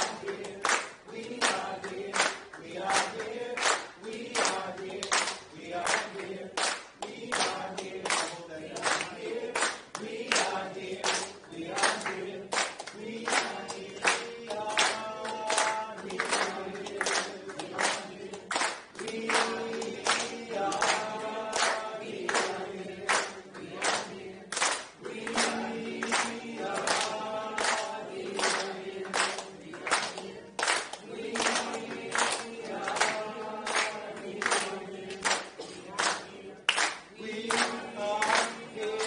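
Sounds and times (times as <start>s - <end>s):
group singing in unison: 0.0s - 39.0s
hand claps: 0.0s - 39.0s.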